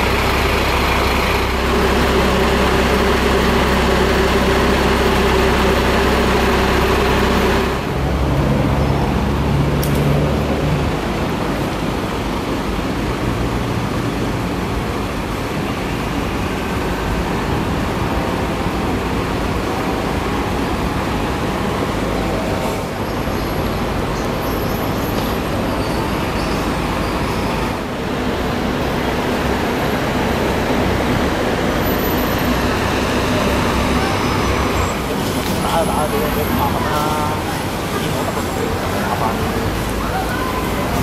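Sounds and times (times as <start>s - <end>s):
bus engine rumble: 0.0s - 41.0s
road and tyre noise: 0.0s - 41.0s.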